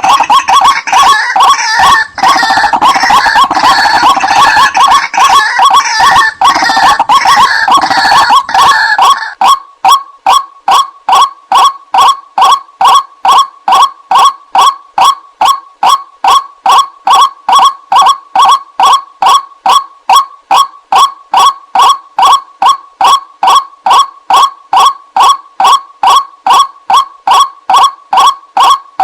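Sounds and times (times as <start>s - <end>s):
waterhen calling: 0.0s - 28.8s.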